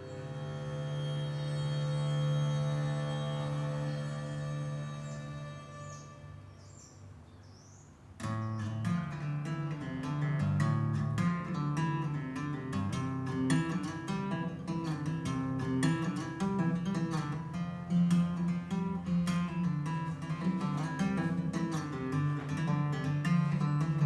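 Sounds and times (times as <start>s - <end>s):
acoustic guitar music: 0.0s - 6.9s, 8.2s - 24.0s.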